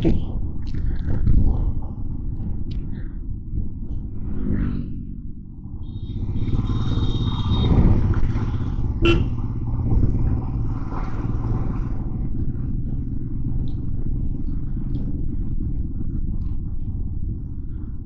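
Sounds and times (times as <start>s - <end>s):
motorcycle engine running: 0.0s - 18.0s
surrounding traffic noise: 0.0s - 18.0s.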